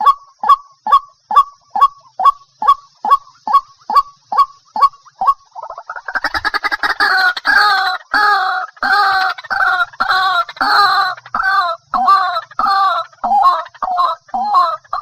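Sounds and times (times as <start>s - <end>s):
waterhen harsh repeated calls: 0.0s - 15.0s.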